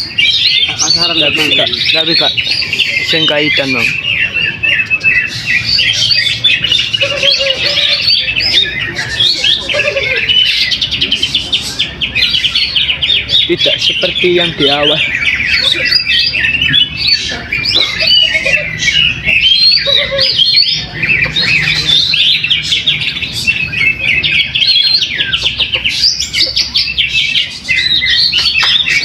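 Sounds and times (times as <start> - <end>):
caged songbirds singing: 0.0 - 29.0.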